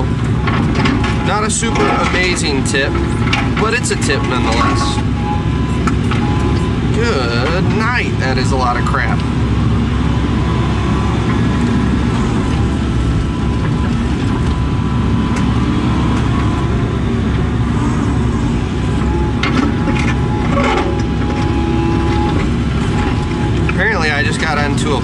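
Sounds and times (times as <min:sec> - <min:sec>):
diesel engine and hydraulics: 0:00.0 - 0:25.0.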